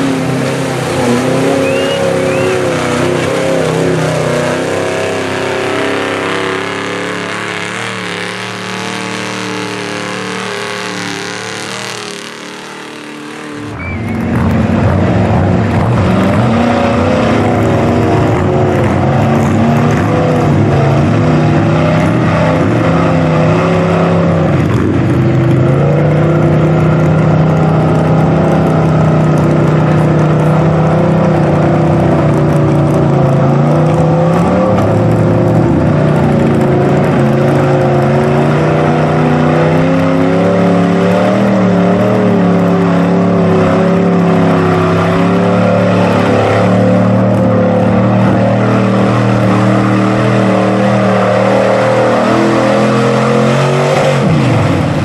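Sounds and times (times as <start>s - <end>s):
engine running at high revs: 0.0s - 55.0s
truck engines revving hard: 0.0s - 55.0s.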